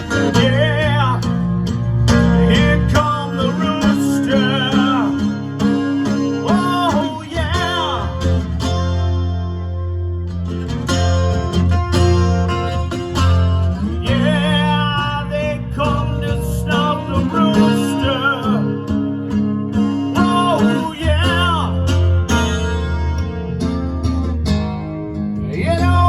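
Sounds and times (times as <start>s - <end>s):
instrumental rock band: 0.0s - 26.0s
lead guitar bending notes: 0.0s - 26.0s.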